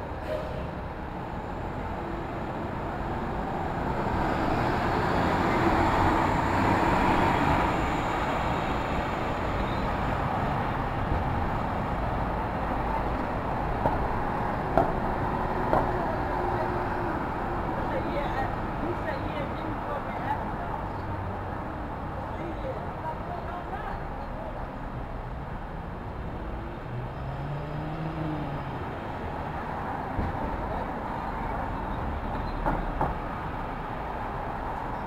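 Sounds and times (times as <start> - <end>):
street traffic rush: 0.0 - 35.0.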